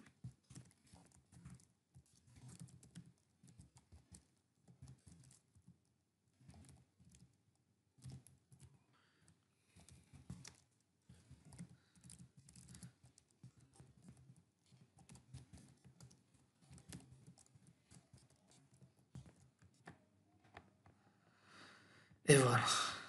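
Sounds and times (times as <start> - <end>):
faint typing on computer keyboard: 0.0 - 21.0.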